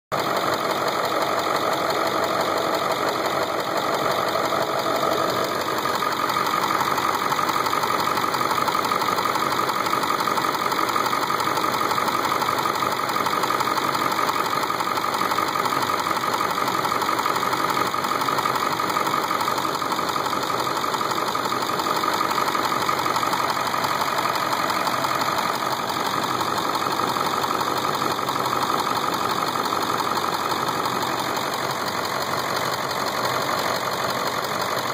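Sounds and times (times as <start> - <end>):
diesel engine idling with clatter: 0.1 - 34.9.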